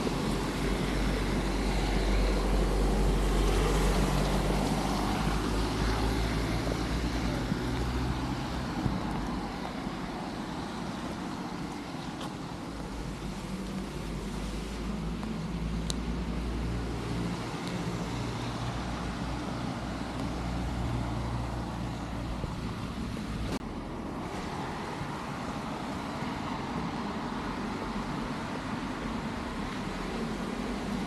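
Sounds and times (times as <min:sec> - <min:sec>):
traffic rumble on wet street: 0:00.0 - 0:31.0.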